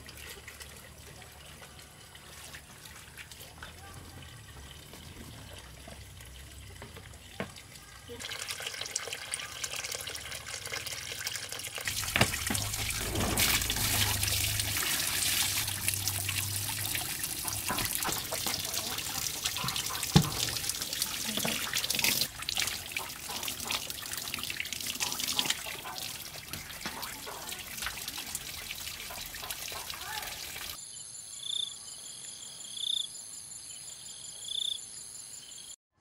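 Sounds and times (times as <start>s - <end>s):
water pouring into bucket: 0.0s - 30.8s.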